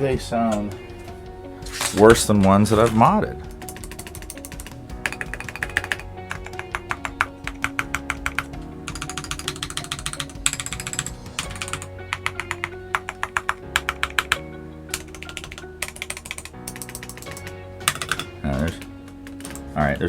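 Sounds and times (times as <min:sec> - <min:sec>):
keyboard stabilizer ticking: 0:01.7 - 0:19.7
mechanical keyboard typing: 0:03.6 - 0:19.7.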